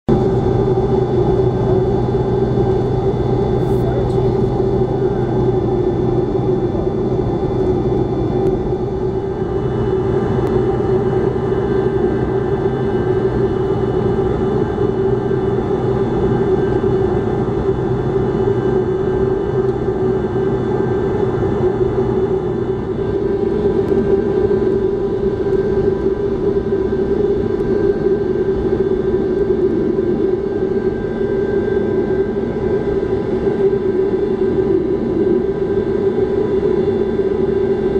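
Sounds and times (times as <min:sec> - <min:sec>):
jet engines humming in cabin: 0:00.1 - 0:37.9.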